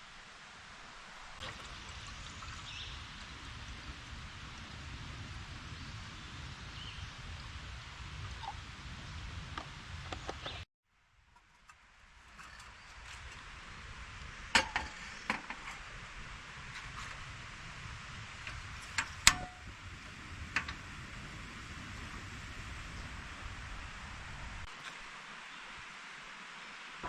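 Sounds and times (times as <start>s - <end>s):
outdoor hiss: 0.0s - 27.0s.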